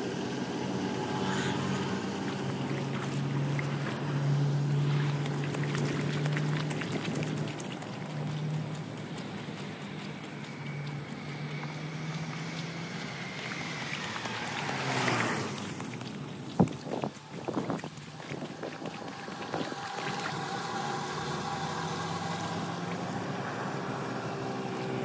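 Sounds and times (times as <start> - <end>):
vehicle engine humming: 0.0 - 25.0
car tyres hissing through water: 0.1 - 25.0
small splashes and clicks: 1.2 - 23.2.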